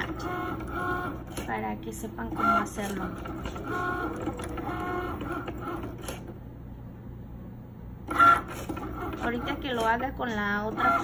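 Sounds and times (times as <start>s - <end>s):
cutting machine motors whining: 0.0s - 6.6s, 8.0s - 11.0s.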